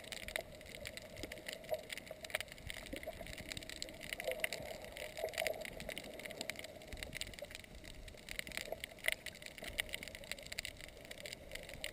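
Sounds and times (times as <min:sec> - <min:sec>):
faint clicks and crackles: 0:00.0 - 0:11.9.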